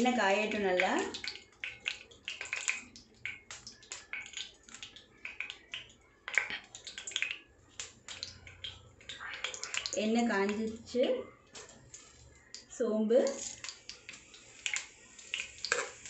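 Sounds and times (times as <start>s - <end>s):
cooking oil crackling and popping: 0.0s - 16.0s.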